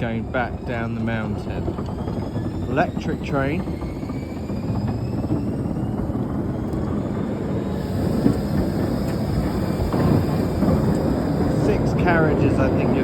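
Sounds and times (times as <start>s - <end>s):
faint whine rising in pitch: 0.0s - 13.0s
train low rumble: 0.0s - 13.0s.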